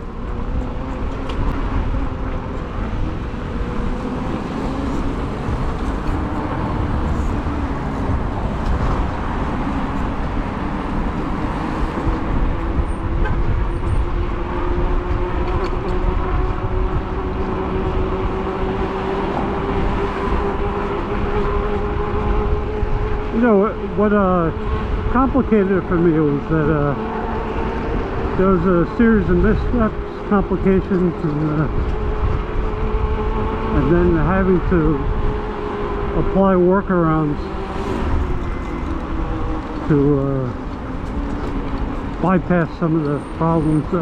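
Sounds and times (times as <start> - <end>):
road rumble: 0.0 - 44.0
wind buffeting microphone: 0.0 - 44.0.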